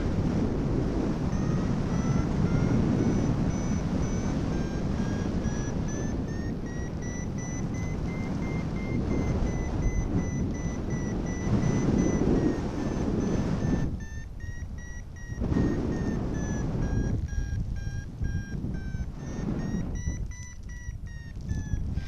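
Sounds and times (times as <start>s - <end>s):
wind rumble on microphone: 0.0s - 22.0s
variometer short beeps: 1.0s - 22.0s.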